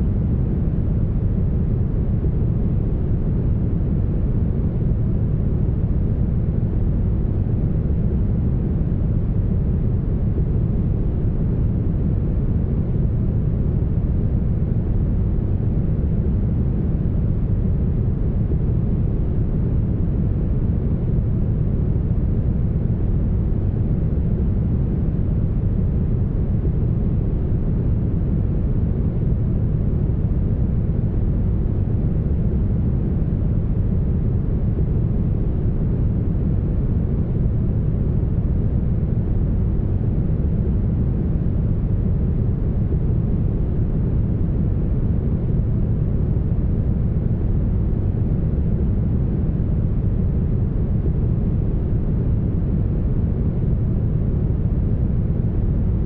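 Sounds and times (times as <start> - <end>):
deep brown noise rumble: 0.0 - 56.0.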